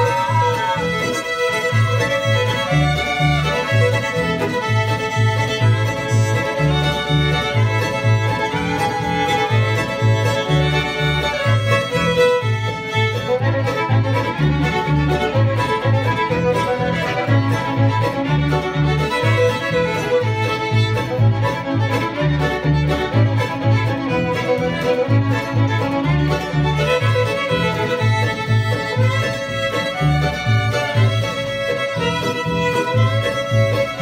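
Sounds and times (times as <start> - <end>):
fiddles playing melody: 0.0 - 34.0
mandolin: 0.0 - 34.0
plucked upright bass: 0.0 - 34.0.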